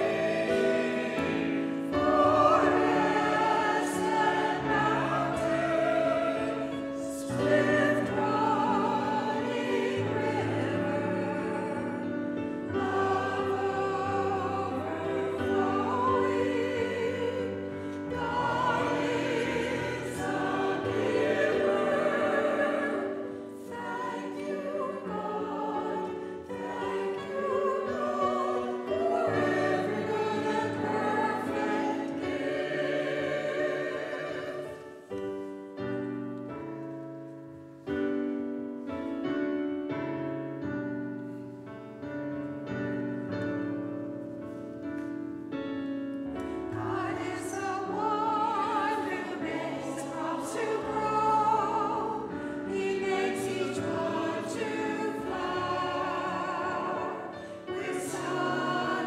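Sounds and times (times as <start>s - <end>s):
choir singing: 0.0s - 37.0s, 46.4s - 59.0s
piano accompaniment: 0.0s - 59.0s.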